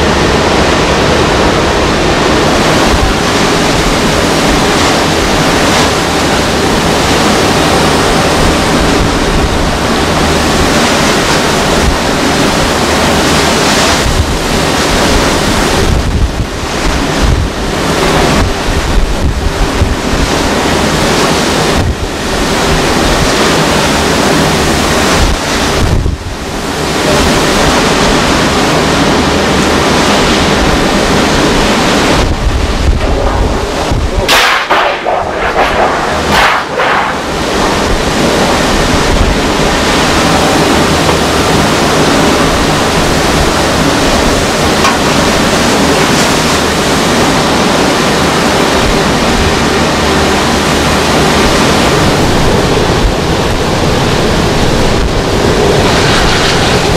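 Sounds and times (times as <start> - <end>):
driving rain: 0.0 - 56.9
strong wind: 0.0 - 56.9
wind buffeting microphone: 0.0 - 56.9.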